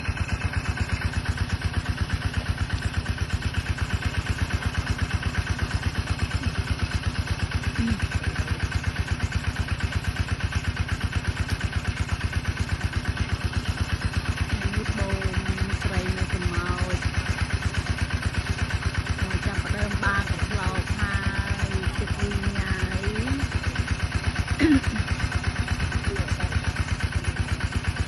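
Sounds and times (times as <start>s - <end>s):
small engine idling: 0.0s - 28.0s.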